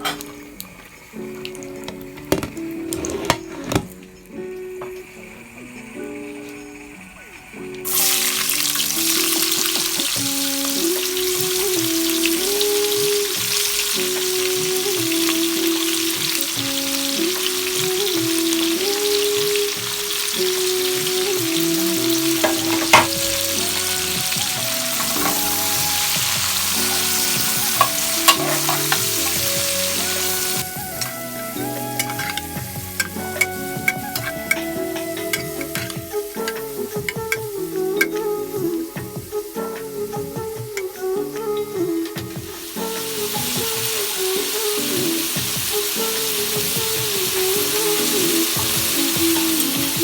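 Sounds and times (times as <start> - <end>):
food sizzling in hot oil: 0.0 - 50.0
light background melody: 0.0 - 50.0.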